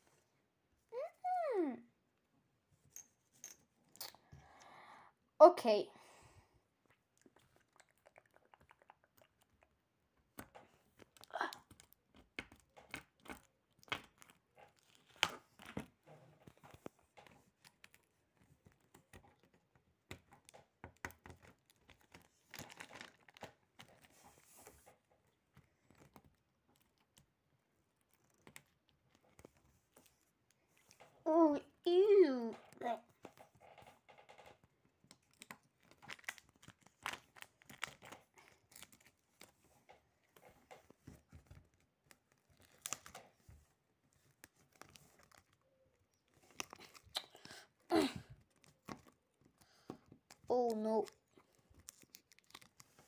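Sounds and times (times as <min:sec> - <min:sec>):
paper and tape crinkling: 0:10.3 - 0:53.0.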